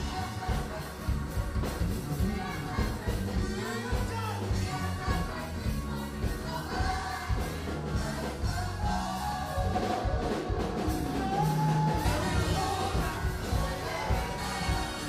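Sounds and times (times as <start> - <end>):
band with steady beat: 0.0 - 15.0
choir singing: 0.0 - 15.0.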